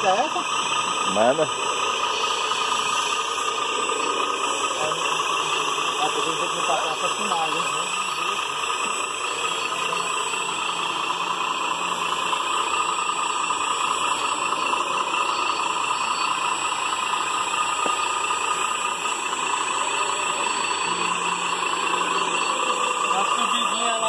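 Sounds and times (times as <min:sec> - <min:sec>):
toy wheel loader running: 0:00.0 - 0:24.0.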